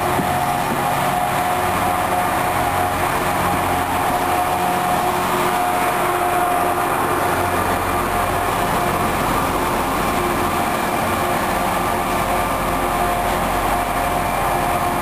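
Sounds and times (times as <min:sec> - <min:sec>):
train wheels and engine rumble: 0:00.0 - 0:15.0.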